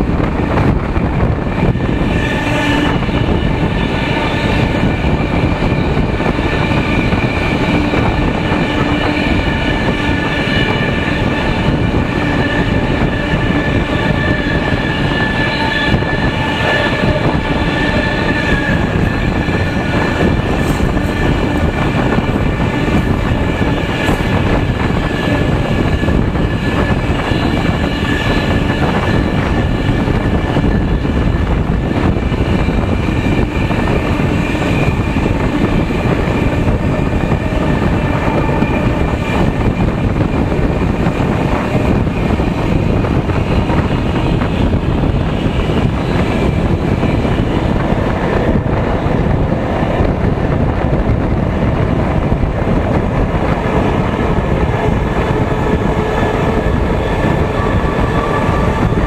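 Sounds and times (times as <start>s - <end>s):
diesel locomotive engine: 0.0s - 59.0s
rushing air: 0.0s - 59.0s
train wheels rumbling: 0.0s - 59.0s.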